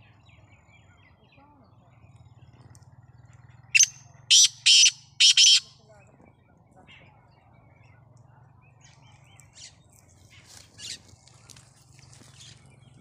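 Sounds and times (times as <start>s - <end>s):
faint bird chirps: 0.0s - 11.1s.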